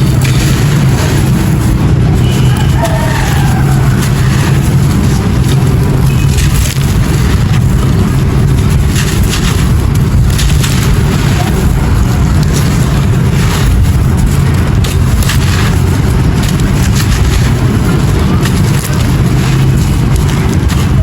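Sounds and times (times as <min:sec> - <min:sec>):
dry clay crunching: 0:00.0 - 0:21.0
heavy low rumble: 0:00.0 - 0:21.0.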